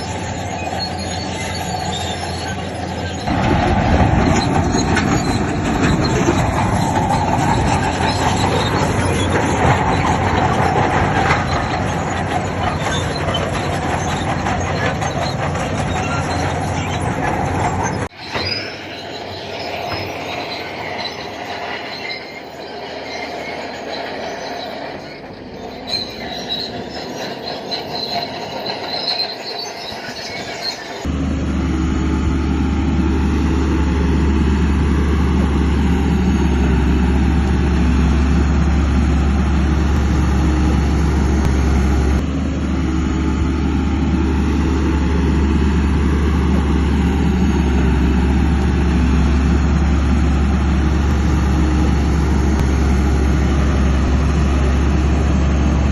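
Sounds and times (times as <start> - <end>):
diesel engine drone: 0.0 - 55.9
metal tracks squealing: 0.0 - 55.9.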